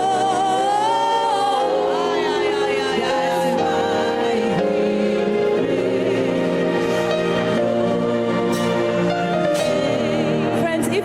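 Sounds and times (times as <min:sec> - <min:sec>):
person singing gospel: 0:00.0 - 0:11.0
sustained instrumental chords: 0:00.0 - 0:11.0.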